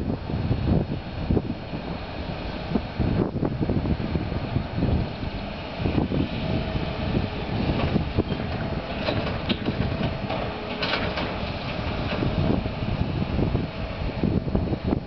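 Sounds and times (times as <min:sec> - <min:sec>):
wind buffeting microphone: 0:00.0 - 0:15.0
distant excavator diesel engines: 0:00.1 - 0:15.0.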